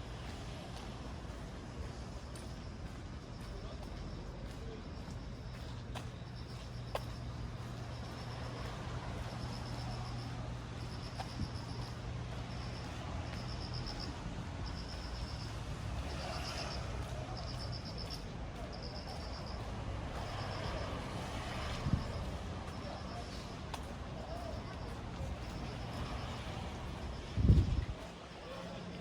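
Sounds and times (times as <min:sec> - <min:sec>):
cricket chirping in pulsed trills: 0:02.1 - 0:27.9.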